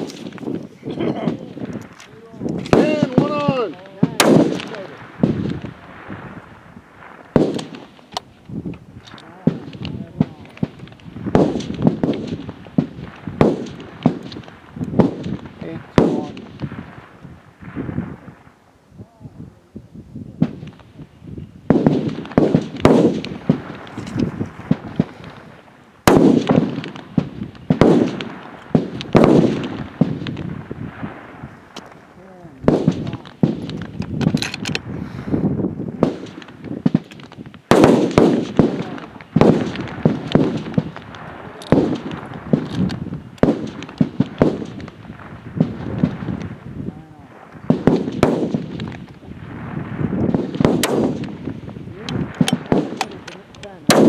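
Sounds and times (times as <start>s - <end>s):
rifle shots: 0.0s - 6.4s, 7.0s - 8.3s, 9.0s - 17.9s, 21.7s - 32.0s, 32.6s - 34.8s, 36.0s - 46.6s, 47.6s - 54.0s.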